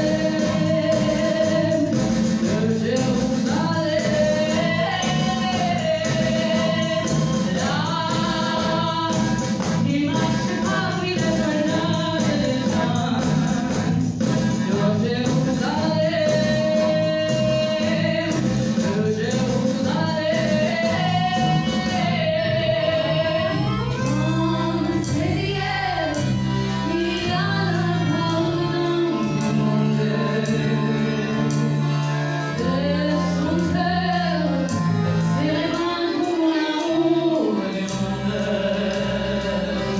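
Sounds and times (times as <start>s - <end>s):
drums: 0.0s - 36.2s
ensemble singing: 0.0s - 39.9s
lead singer: 0.0s - 39.9s.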